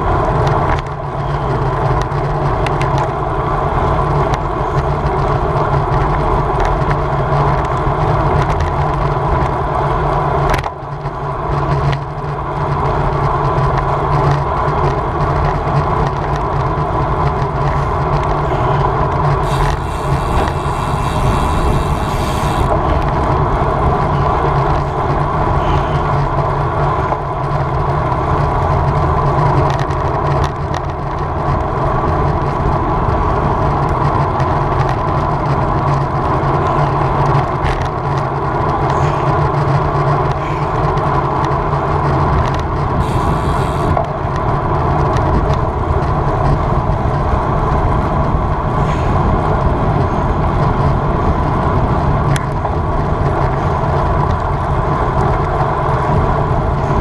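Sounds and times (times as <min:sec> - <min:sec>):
bicycle tyre and road noise: 0:00.0 - 0:57.0
wind noise on microphone: 0:00.0 - 0:57.0.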